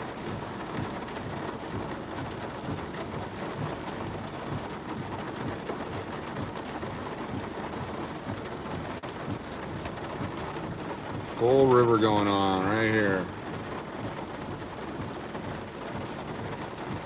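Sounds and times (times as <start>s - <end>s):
rain falling on a car: 0.0s - 17.0s.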